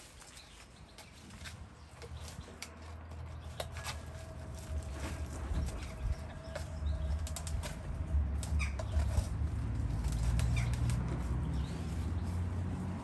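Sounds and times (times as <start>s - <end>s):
puppy gnawing cardboard tube: 0.0s - 13.0s.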